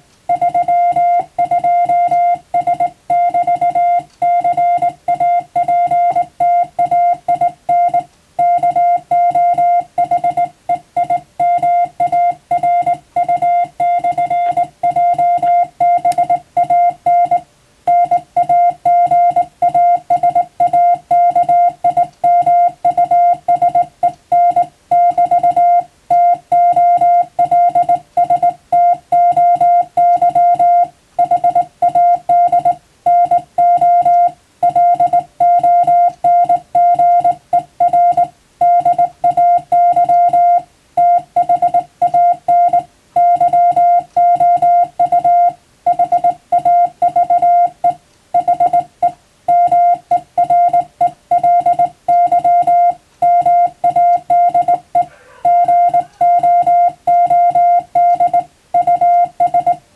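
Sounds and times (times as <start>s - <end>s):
morse code beeps: 0.3s - 59.8s.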